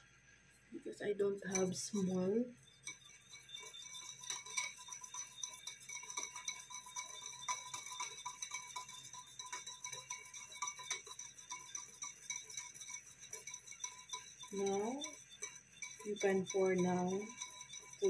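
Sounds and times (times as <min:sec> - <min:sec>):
whisk clinking in ceramic bowl: 0:01.5 - 0:18.0.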